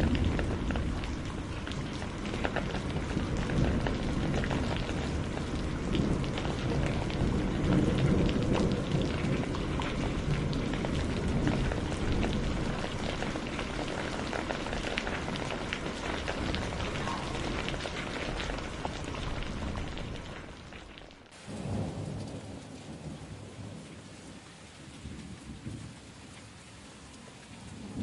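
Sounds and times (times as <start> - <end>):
low thunder rumble: 0.0 - 24.0
heavy rain: 0.0 - 28.0.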